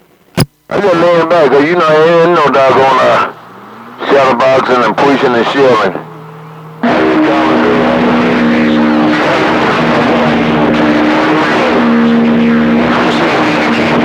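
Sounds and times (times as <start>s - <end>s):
radio static hiss: 0.0s - 14.0s
whistling radio tones: 0.7s - 14.0s.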